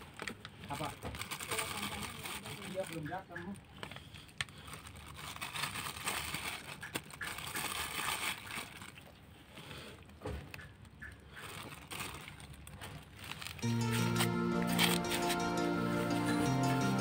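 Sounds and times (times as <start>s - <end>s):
newspaper crinkling: 0.0s - 9.1s, 11.4s - 16.5s
cats eating and licking: 0.0s - 17.0s.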